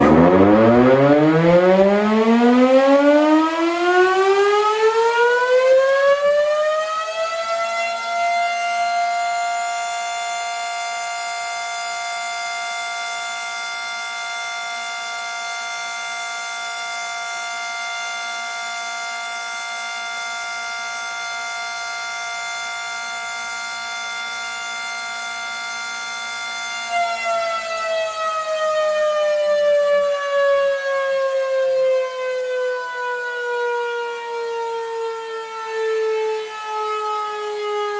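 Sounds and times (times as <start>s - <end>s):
civil defense siren wailing: 0.0s - 37.9s.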